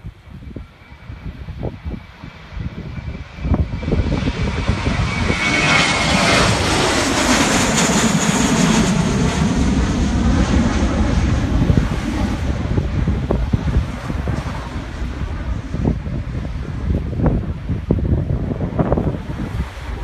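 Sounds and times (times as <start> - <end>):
jet airliner taking off: 0.0 - 20.0
jet engine high whine: 0.0 - 20.0.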